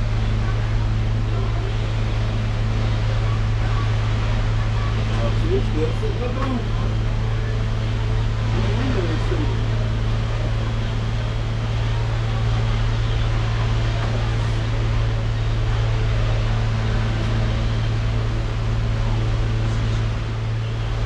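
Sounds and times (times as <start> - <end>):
motor or fan droning: 0.0 - 21.0.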